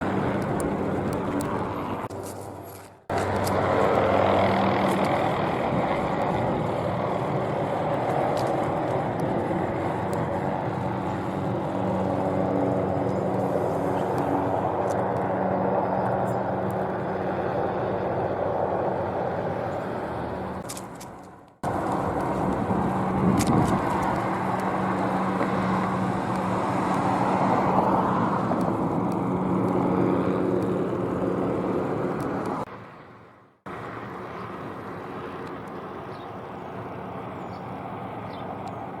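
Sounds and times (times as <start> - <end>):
helicopter flying low: 0.0 - 39.0.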